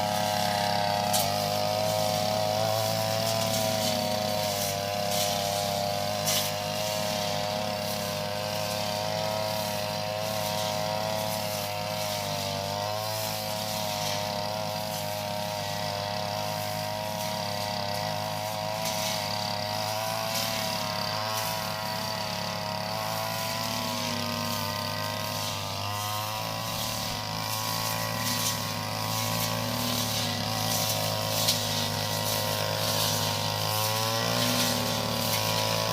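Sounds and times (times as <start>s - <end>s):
brush cutter engine running: 0.0s - 35.9s.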